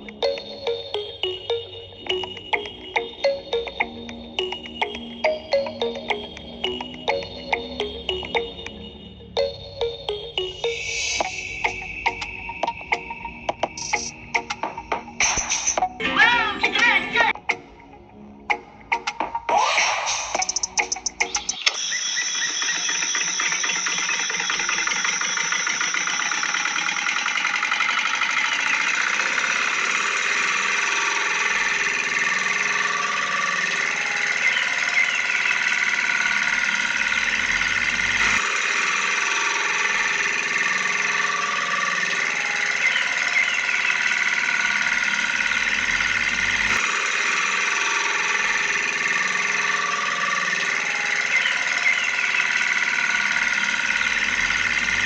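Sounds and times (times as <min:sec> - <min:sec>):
tractor engine running with whine: 0:00.0 - 0:55.0.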